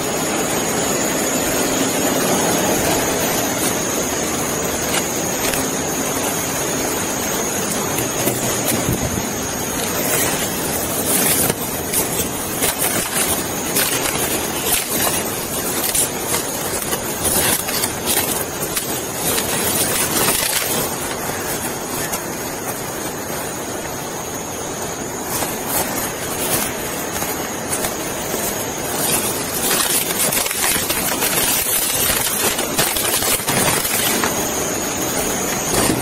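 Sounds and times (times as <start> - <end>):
steady noisy hum: 0.0 - 36.0.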